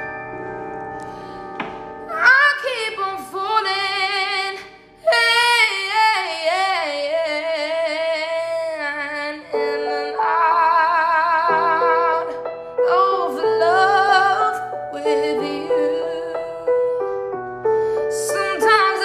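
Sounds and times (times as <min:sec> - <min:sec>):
woman singing: 0:02.1 - 0:17.1, 0:18.0 - 0:19.0.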